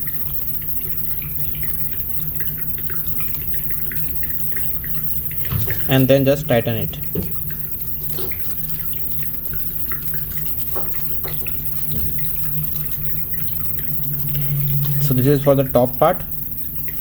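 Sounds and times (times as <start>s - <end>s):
steady low hum: 3.2s - 17.0s.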